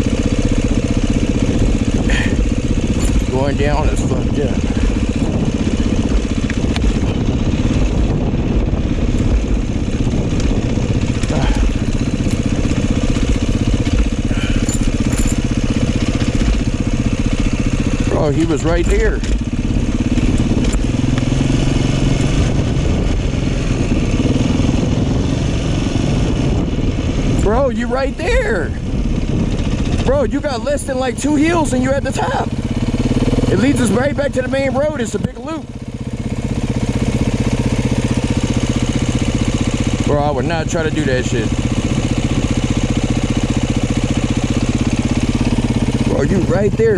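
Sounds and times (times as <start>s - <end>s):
dirt bike engine running: 0.0s - 46.9s.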